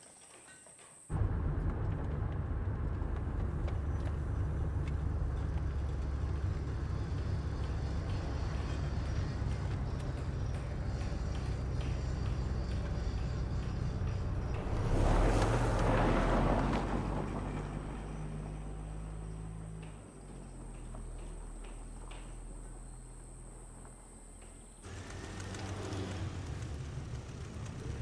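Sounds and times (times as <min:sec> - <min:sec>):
car engine and road noise: 0:01.1 - 0:28.0.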